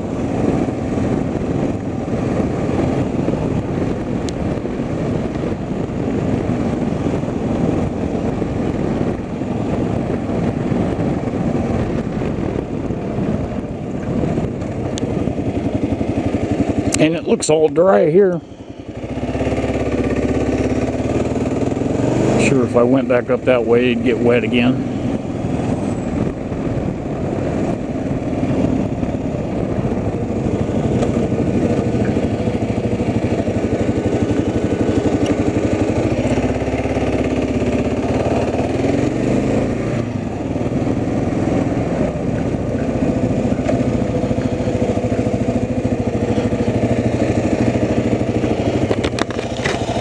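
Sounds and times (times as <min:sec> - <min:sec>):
vehicle engine rumbling: 0:00.0 - 0:50.0.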